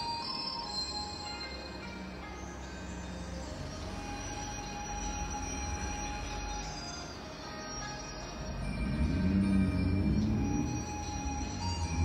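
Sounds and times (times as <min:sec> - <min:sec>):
slow music of long held tones: 0:00.0 - 0:12.0
low drone: 0:02.1 - 0:12.0.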